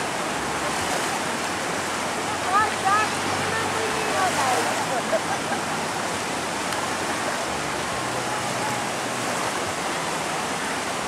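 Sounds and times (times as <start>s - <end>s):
sea surf washing onto beach: 0.0s - 11.0s.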